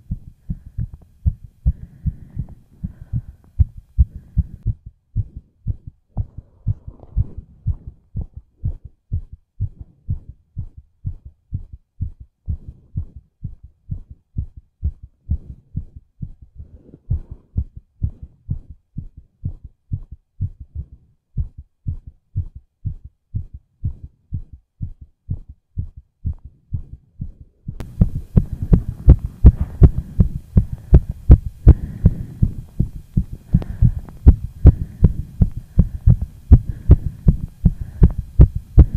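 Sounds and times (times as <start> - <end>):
fast heartbeat thumps: 0.0 - 38.9.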